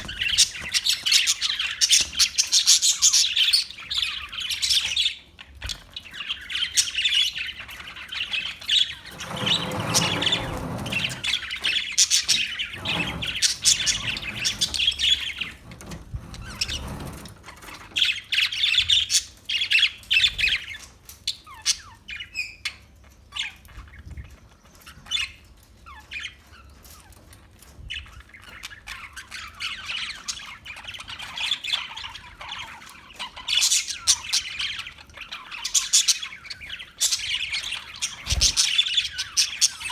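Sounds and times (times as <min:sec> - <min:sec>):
parakeets chirping and squawking: 0:00.0 - 0:39.9.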